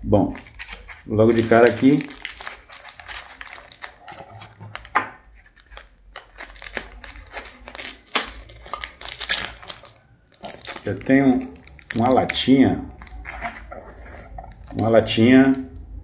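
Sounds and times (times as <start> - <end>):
plastic packing material crinkling: 0.3 - 15.6.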